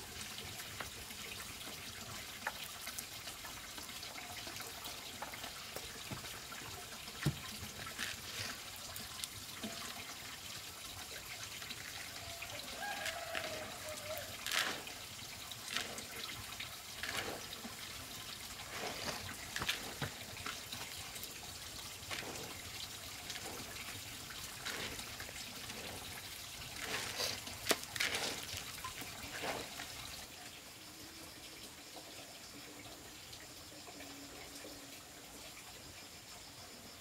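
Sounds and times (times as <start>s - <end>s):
water splashing and trickling: 0.0s - 37.0s.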